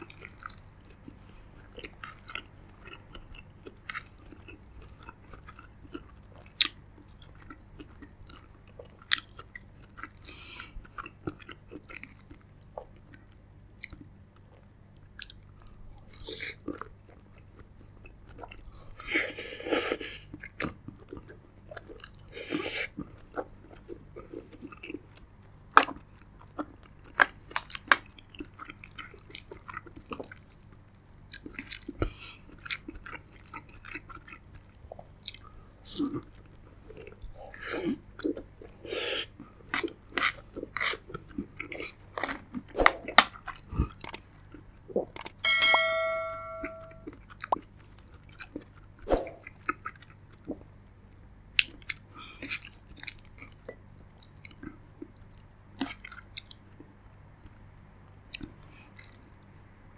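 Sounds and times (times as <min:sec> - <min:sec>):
person chewing with mouth clicks: 0:00.0 - 0:45.4, 0:46.9 - 0:50.7, 0:51.5 - 0:57.6, 0:58.3 - 0:59.4.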